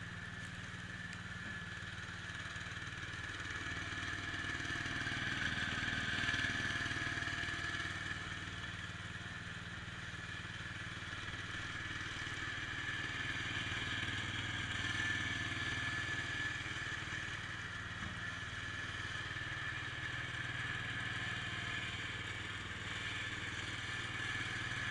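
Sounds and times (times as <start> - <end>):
garden tractor engine running: 0.0 - 24.9.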